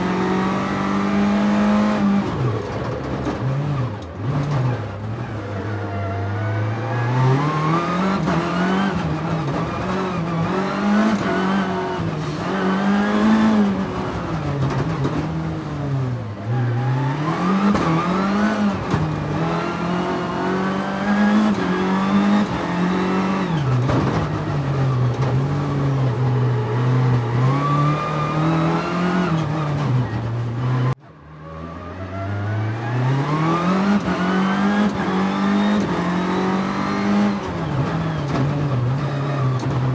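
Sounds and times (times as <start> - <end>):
car engine revving: 0.0 - 31.0, 32.2 - 39.9.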